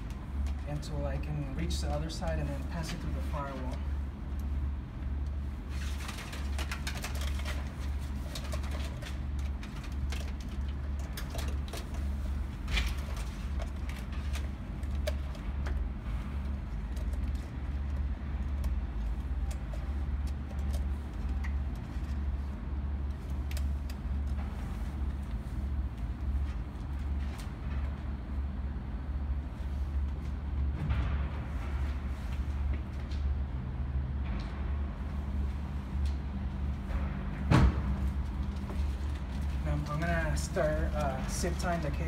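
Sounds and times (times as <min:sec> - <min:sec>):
clicks and rustles of cable: 0:00.0 - 0:28.6, 0:29.6 - 0:33.5, 0:37.9 - 0:42.0.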